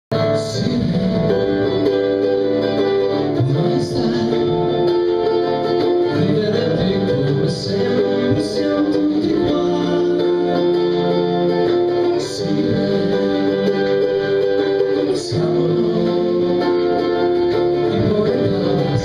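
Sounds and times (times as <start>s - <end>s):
bass: 0.1s - 19.0s
guitar: 0.1s - 19.0s
keyboard holding long chords: 0.1s - 19.0s.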